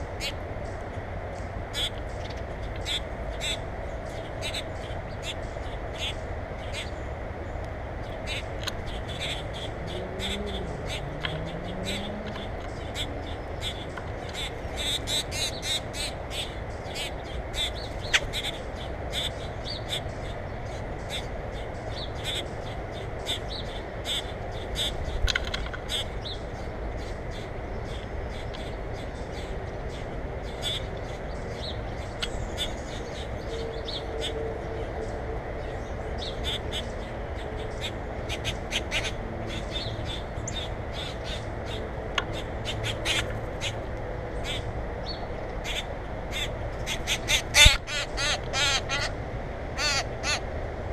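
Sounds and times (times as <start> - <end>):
low background rumble: 0.0 - 50.9
birds calling: 1.7 - 50.5.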